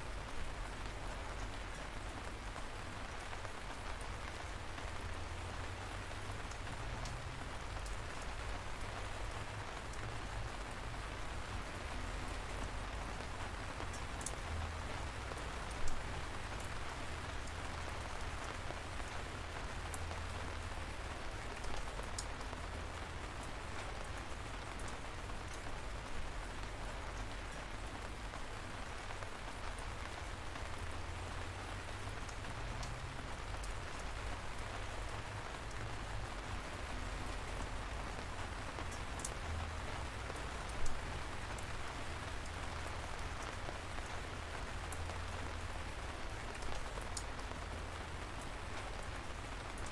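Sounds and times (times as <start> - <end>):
light rain patter: 0.0 - 49.9.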